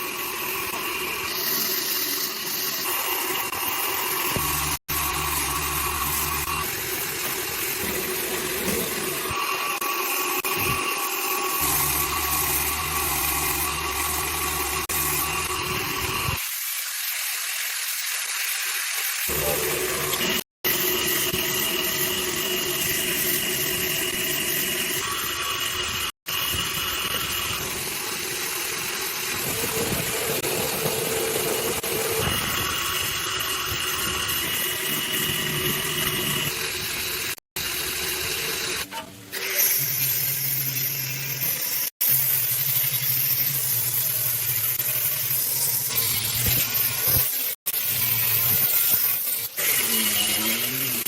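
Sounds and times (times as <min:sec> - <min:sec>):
machine running with hiss: 0:00.0 - 0:51.0.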